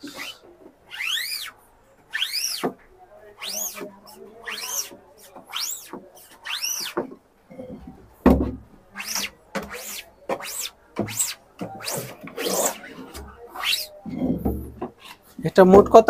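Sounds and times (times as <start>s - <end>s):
applicator scraping across mesh: 0.0s - 7.9s, 9.0s - 15.2s.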